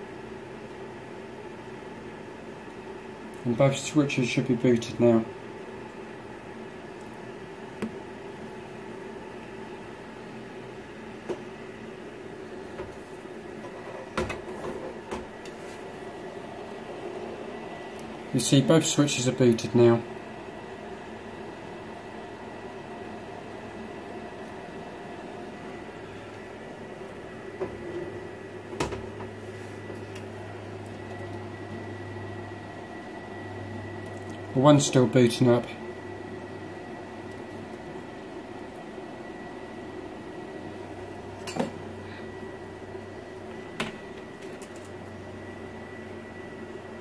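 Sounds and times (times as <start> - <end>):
cooling fans humming with whine: 0.0 - 47.0.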